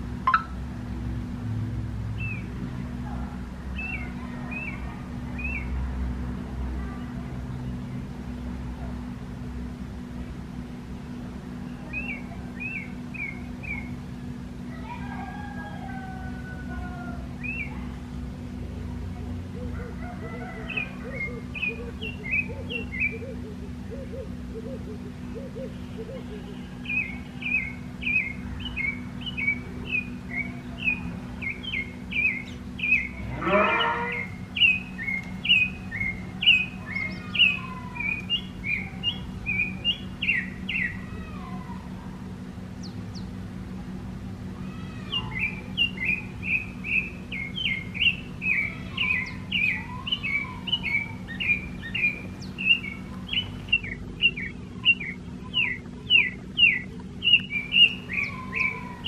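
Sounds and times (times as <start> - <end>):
birds chirping: 0.0 - 0.7, 2.1 - 59.0.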